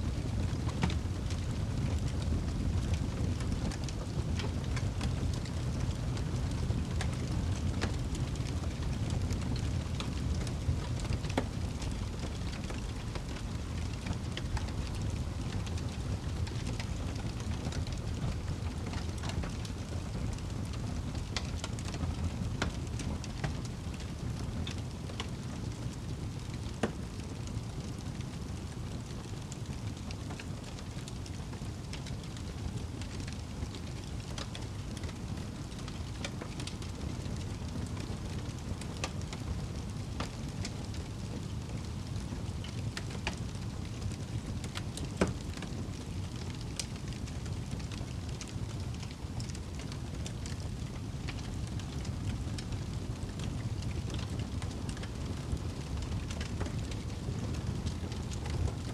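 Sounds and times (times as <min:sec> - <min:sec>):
fire crackling in a fireplace: 0:00.0 - 0:58.9.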